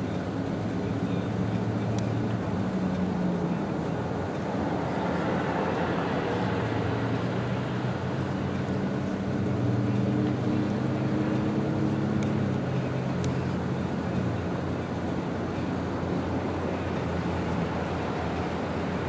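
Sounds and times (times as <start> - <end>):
traffic noise: 0.0 - 19.0
vehicle engine humming: 0.0 - 19.0.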